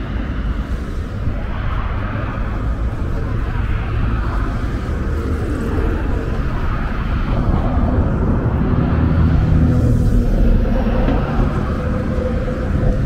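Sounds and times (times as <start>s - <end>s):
cars passing on road: 0.0s - 13.0s.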